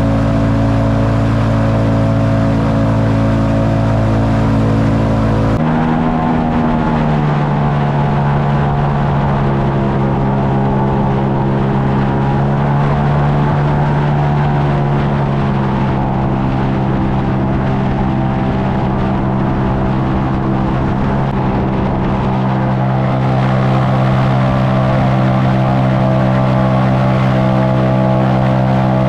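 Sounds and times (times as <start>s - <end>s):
airboat engine and propeller: 0.0s - 29.0s.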